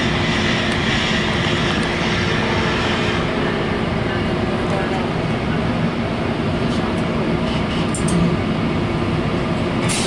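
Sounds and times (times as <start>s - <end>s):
train rumbling and rolling: 0.0s - 10.0s.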